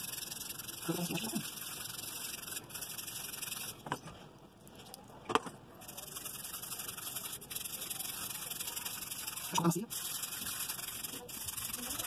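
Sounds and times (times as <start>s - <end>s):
toothbrush scrubbing fabric: 0.0s - 3.8s, 5.8s - 12.0s.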